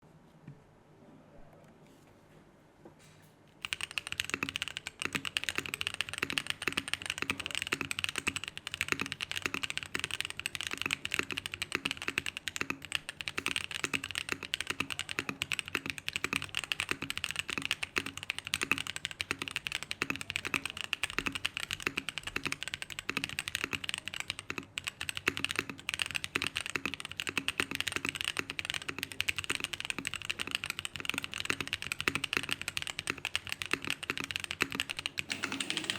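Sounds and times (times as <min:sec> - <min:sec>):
fast mechanical keyboard typing: 0:03.6 - 0:35.9.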